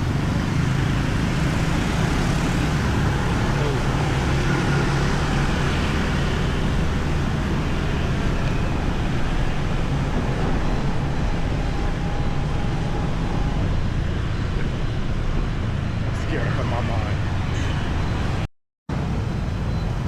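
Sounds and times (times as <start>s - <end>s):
passing traffic: 0.0s - 20.0s
wind noise: 0.0s - 20.0s.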